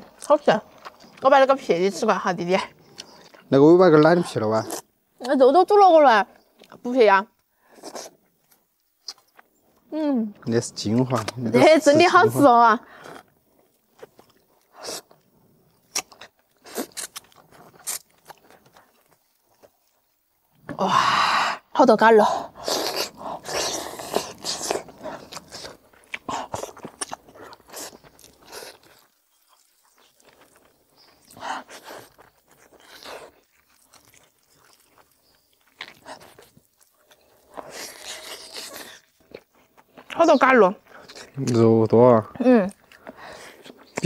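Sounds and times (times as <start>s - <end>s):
chewing and sucking on meat: 0.0s - 5.4s, 6.3s - 20.6s, 22.3s - 44.0s.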